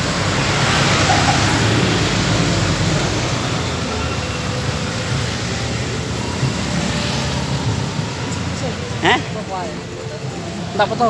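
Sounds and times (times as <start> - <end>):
busy street traffic: 0.0 - 11.0
motorbikes passing: 0.0 - 11.0.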